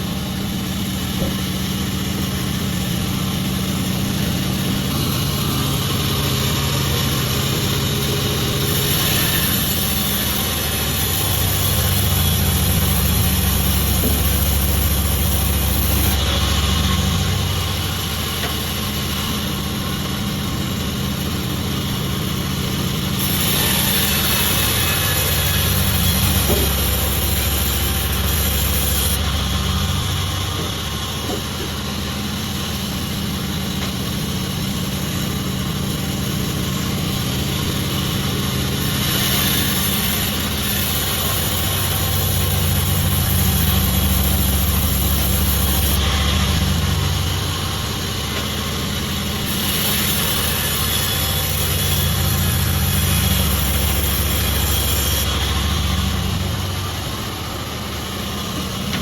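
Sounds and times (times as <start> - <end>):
sawmill saw cutting wood: 0.0 - 59.0.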